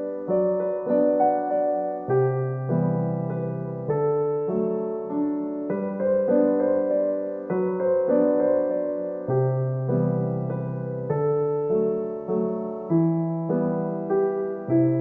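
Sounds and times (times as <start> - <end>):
electric piano music: 0.0 - 15.0.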